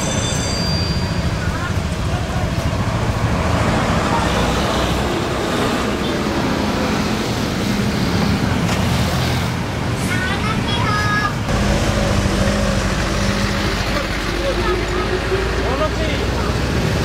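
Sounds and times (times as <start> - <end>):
coach diesel engine running: 0.0 - 17.0.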